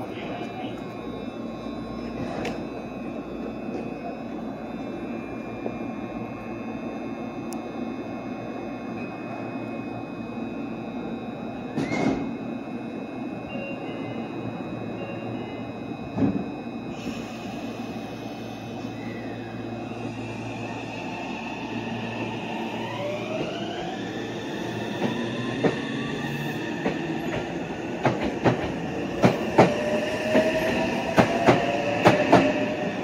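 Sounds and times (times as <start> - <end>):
train equipment humming: 0.0 - 33.0.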